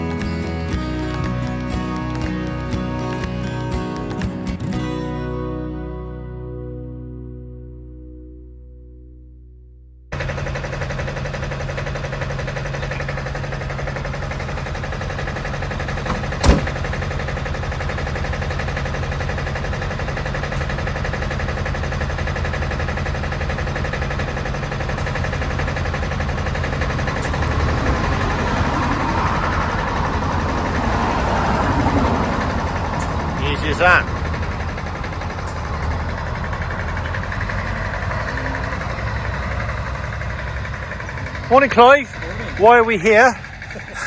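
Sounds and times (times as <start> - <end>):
large vehicle engine running: 0.0 - 7.7, 10.1 - 44.0.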